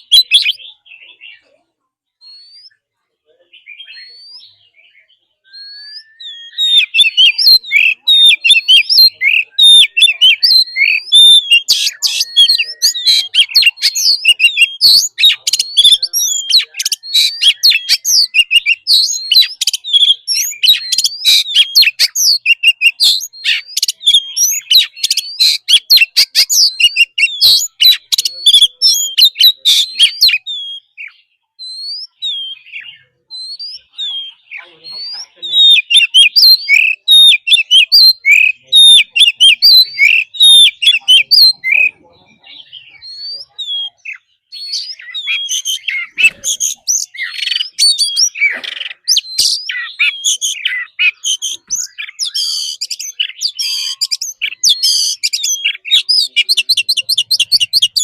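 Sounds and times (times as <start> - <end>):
bird singing whistled phrases: 0.0 - 1.5, 2.2 - 2.8, 3.5 - 58.0.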